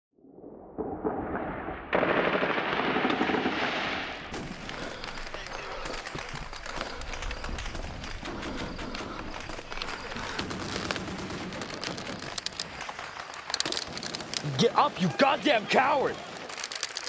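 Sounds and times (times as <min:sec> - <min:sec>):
dense gunfire crackle: 0:00.4 - 0:17.0.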